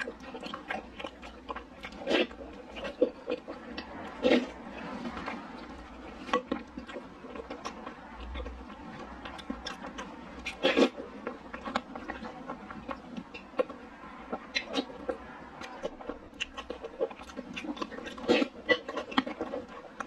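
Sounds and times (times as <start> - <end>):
wet chewing and lip-smacking: 0.0 - 20.0.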